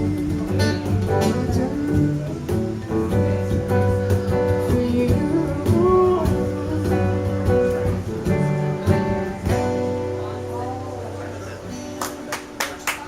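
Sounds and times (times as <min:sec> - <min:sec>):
acoustic guitar strumming: 0:00.0 - 0:12.6.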